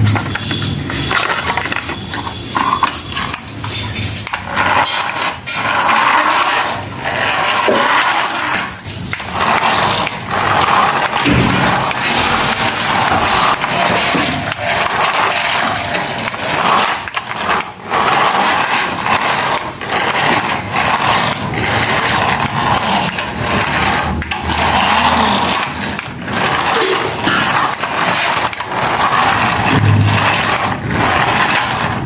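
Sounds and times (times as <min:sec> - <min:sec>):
tyres rolling and scraping: 0:00.0 - 0:32.0
toy car electric motor whirring: 0:00.2 - 0:11.3, 0:13.2 - 0:32.0.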